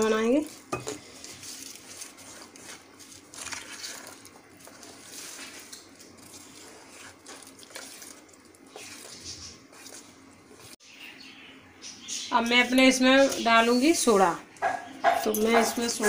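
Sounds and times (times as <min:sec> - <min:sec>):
spoon stirring batter in bowl: 0:00.0 - 0:10.8, 0:12.6 - 0:16.0.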